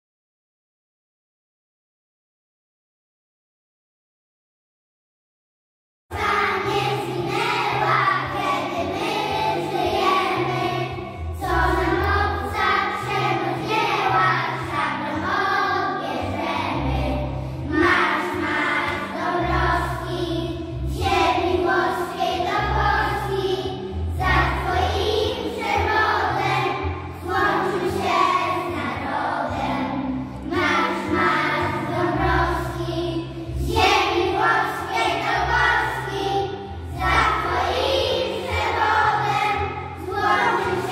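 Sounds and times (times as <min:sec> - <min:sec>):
musical accompaniment with bass: 0:06.1 - 0:40.9
children singing in unison: 0:06.2 - 0:40.9.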